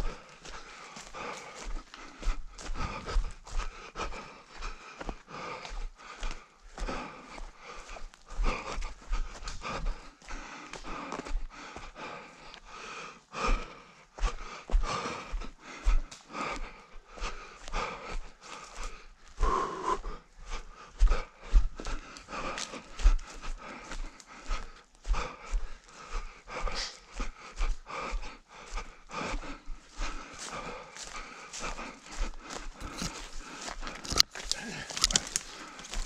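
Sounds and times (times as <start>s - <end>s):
footsteps running: 0.0s - 12.1s, 17.3s - 36.0s
heavy panting breaths: 0.0s - 36.0s.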